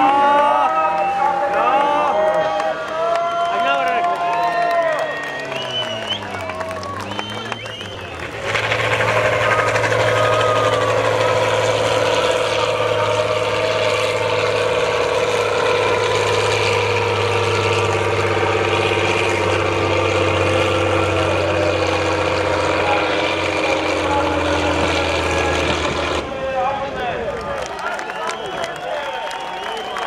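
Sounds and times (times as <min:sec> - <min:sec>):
truck engine running hard: 0:00.0 - 0:30.0.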